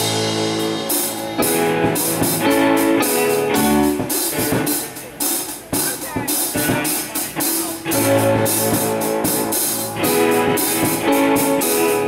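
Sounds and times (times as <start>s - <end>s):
drum kit: 0.0s - 12.0s
strummed electric guitar chords: 0.0s - 12.0s.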